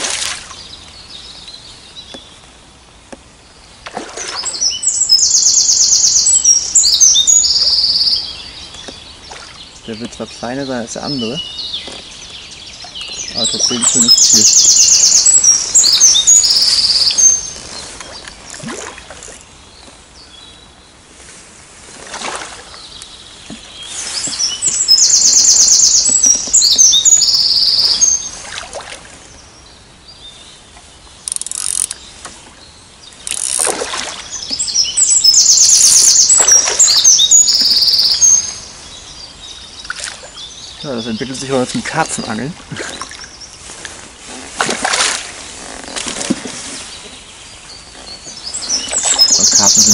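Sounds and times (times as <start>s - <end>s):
songbird singing trill: 0.0s - 21.0s, 22.6s - 28.7s, 29.3s - 43.7s, 46.6s - 49.9s.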